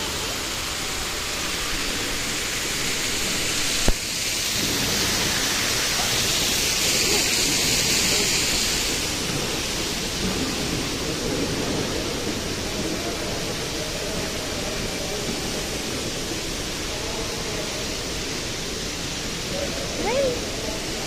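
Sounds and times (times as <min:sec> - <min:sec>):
water fountain rushing hiss: 0:00.0 - 0:21.0.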